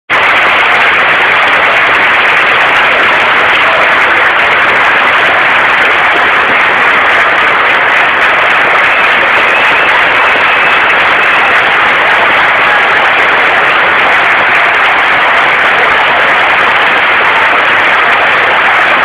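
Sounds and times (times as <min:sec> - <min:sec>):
stadium crowd roaring: 0:00.1 - 0:19.0.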